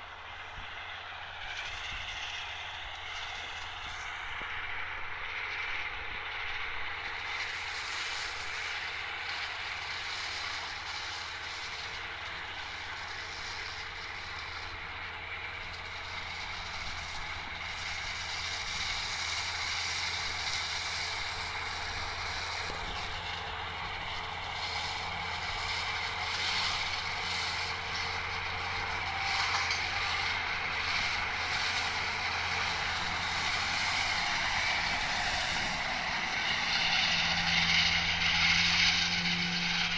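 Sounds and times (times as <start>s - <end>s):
disc mowers whirring: 0.0s - 39.9s
tractor engine running: 0.0s - 39.9s.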